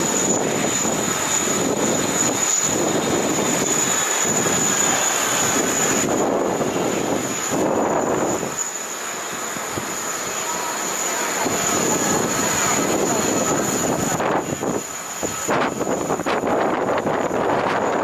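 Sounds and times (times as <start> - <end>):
high engine whine: 0.0 - 18.0
jet engines roaring: 0.0 - 18.0.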